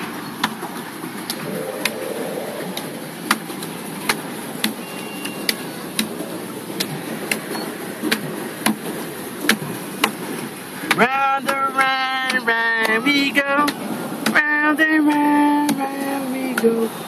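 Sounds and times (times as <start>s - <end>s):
paddle wheel splashing water: 0.0s - 17.0s.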